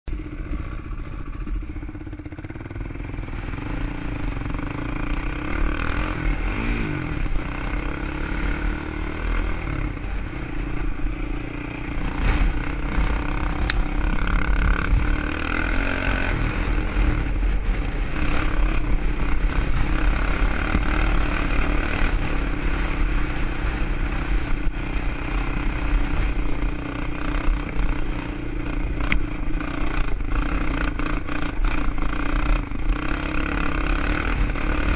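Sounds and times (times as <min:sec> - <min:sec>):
quad engine revving: 0:02.4 - 0:34.9.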